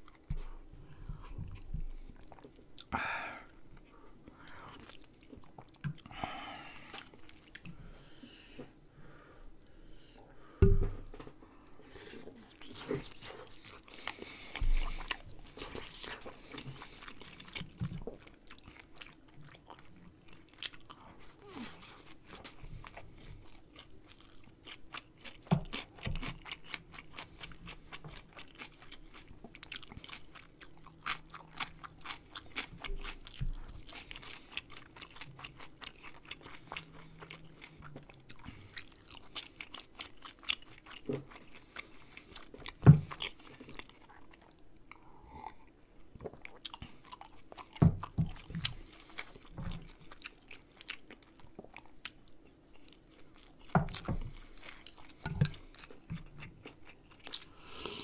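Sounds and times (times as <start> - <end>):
chewing and crunching: 0.0 - 7.8, 10.9 - 58.0.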